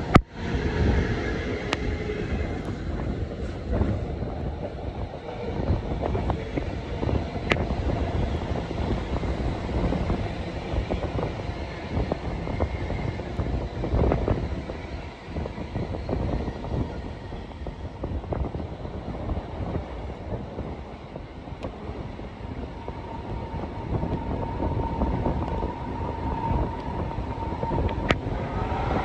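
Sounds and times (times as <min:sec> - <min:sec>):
train carriage rumble: 0:00.0 - 0:29.0
wheels clicking on rails: 0:00.0 - 0:29.0
wind on microphone: 0:00.0 - 0:29.0.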